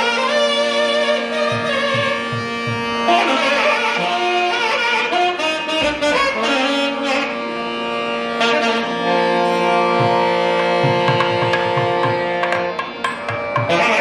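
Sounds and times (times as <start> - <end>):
saxophones playing melody: 0.0 - 13.0, 13.6 - 14.0
shruti box drone: 0.0 - 14.0.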